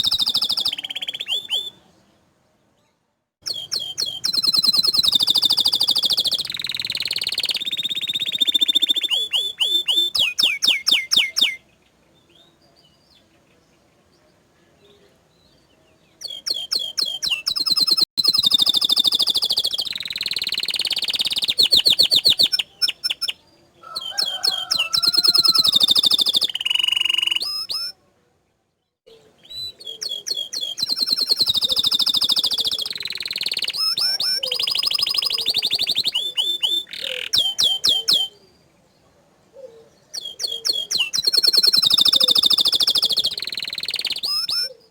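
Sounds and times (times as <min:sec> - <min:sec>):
canary singing trills: 0:00.0 - 0:01.9, 0:03.4 - 0:13.8, 0:14.9 - 0:28.0, 0:29.1 - 0:38.7, 0:39.6 - 0:44.9.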